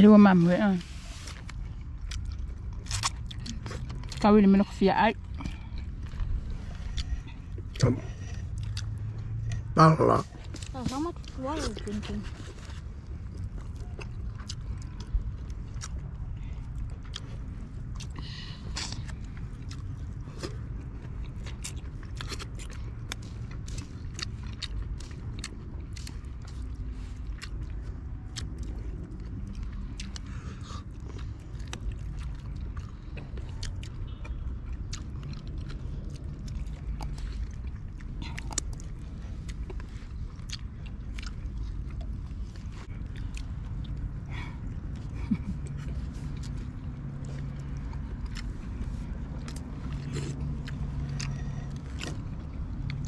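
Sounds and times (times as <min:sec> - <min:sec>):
low rumble: 0:00.0 - 0:53.0
person chewing crunchy food: 0:01.0 - 0:53.0.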